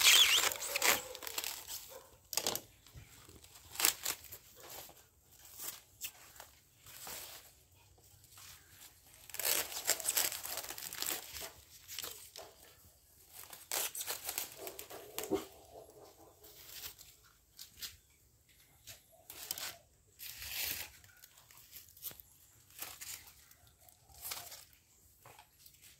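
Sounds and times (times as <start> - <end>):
dry fern fronds crackling: 0.0 - 15.3, 19.2 - 25.9.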